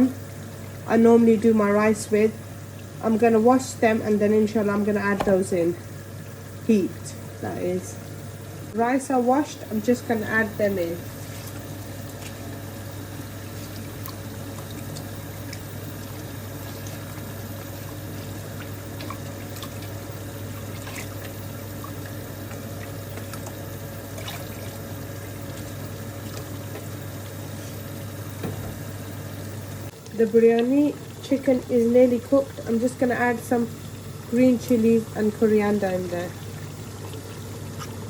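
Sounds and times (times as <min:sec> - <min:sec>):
water bubbling at the boil: 0:00.0 - 0:07.3, 0:09.4 - 0:38.0.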